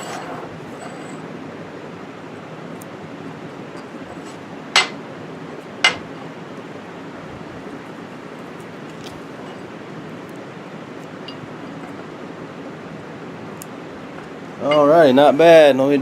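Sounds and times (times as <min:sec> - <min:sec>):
fan rushing: 0:00.0 - 0:16.0.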